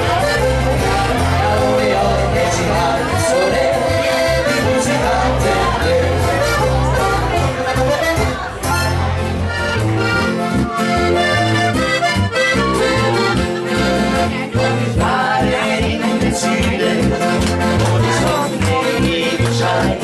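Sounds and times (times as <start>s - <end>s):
accordion playing: 0.0s - 20.0s
electric bass line: 0.0s - 20.0s.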